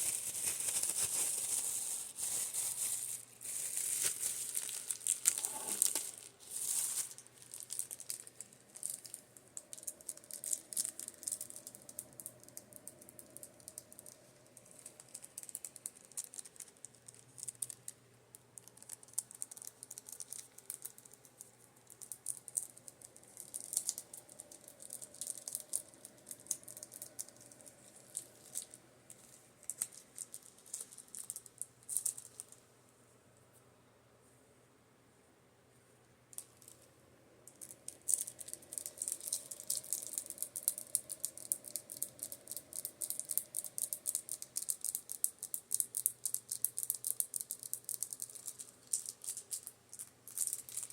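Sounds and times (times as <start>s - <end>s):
faint fan hum: 0.0s - 50.9s.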